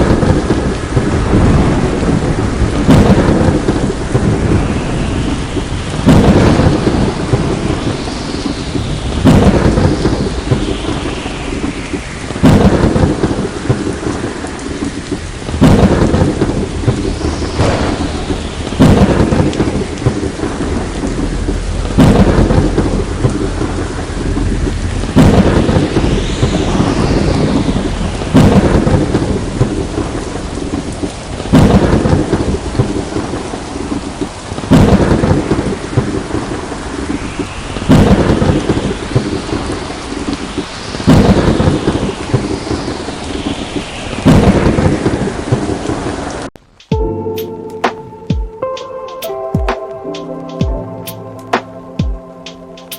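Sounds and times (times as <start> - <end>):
thunder claps and rumble: 0.0 - 47.2
heavy rain falling: 0.0 - 52.9.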